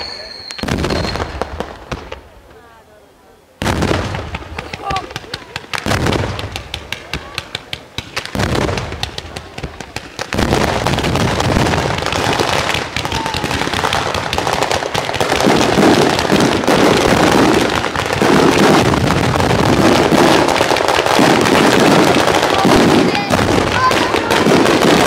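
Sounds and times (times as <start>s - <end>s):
firework barrage bangs: 0.0s - 2.4s, 3.6s - 25.0s.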